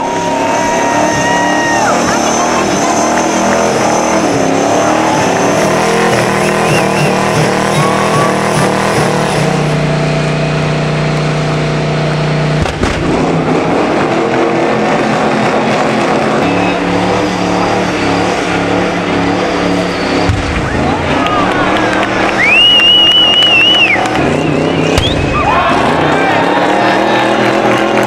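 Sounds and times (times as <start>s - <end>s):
car engine revving hard: 0.0s - 28.0s.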